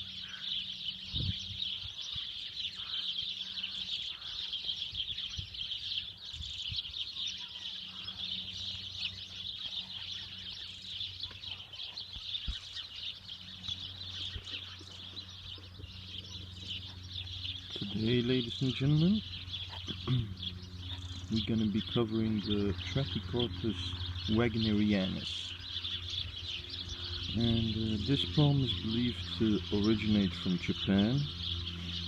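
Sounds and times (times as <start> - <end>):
songbirds chirping and twittering: 0.0 - 32.0.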